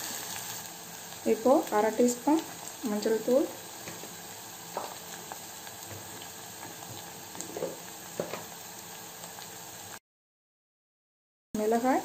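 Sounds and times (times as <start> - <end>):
onions sizzling in oil: 0.0 - 10.0, 11.6 - 12.0.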